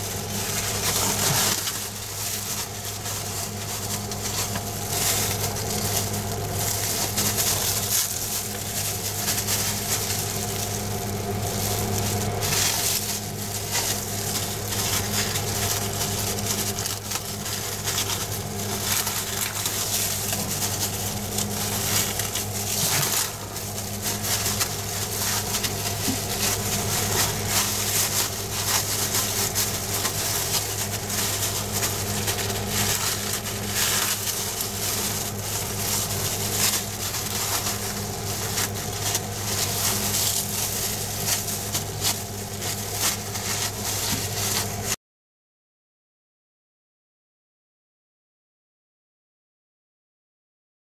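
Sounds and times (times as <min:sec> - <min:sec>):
fiberglass cloth crinkling: 0:00.0 - 0:45.0
steady low hum: 0:00.0 - 0:45.0.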